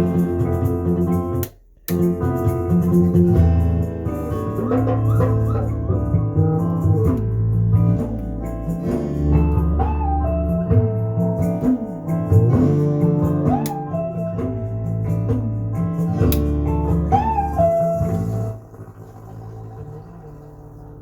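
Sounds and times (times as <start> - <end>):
bass line: 0.0 - 21.0
sliding melody notes: 0.0 - 21.0.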